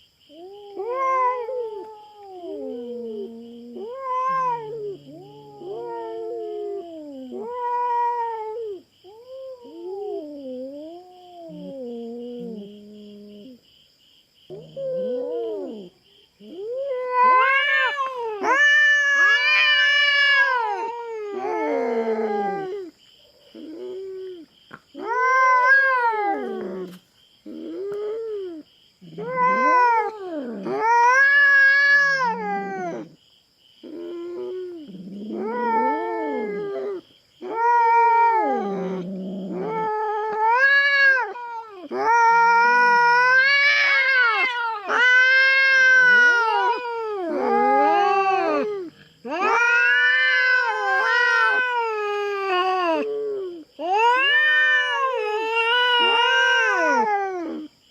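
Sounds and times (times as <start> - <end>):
cats caterwauling: 0.3 - 13.6, 14.5 - 22.9, 23.5 - 33.2, 33.8 - 57.7.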